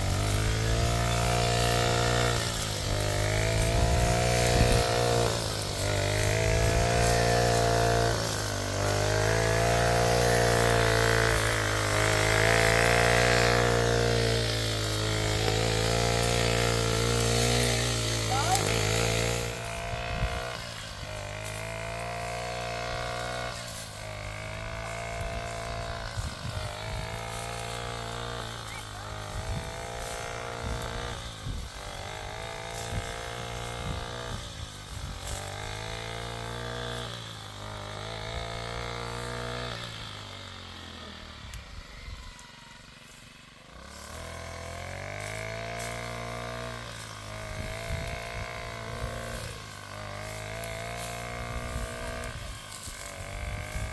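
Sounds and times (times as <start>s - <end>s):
engine running with sagging pitch: 0.0s - 53.9s.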